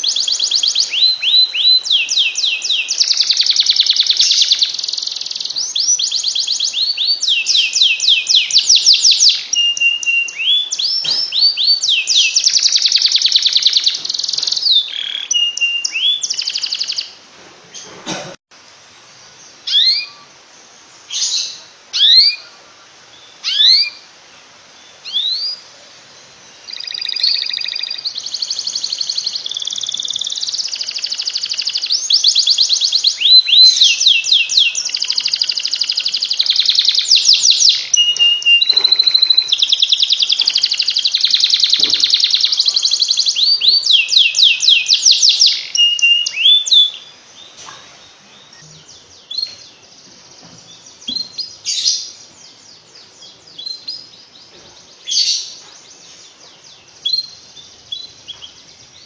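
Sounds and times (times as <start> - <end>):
canary singing: 0.0 - 17.9, 19.5 - 20.4, 21.0 - 59.0.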